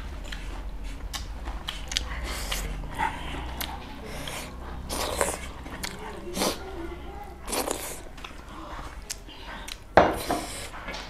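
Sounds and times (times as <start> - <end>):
chewing: 0.0 - 11.0
wet mouth clicks and lip smacks: 0.2 - 6.6, 7.4 - 11.0.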